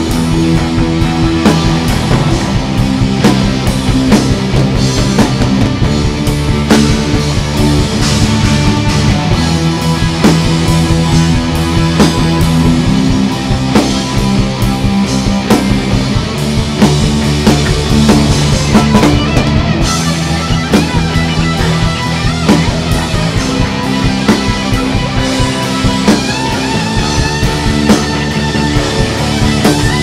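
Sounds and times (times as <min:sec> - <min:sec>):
distorted electric guitar: 0:00.0 - 0:30.0
drum kit steady beat: 0:00.0 - 0:30.0.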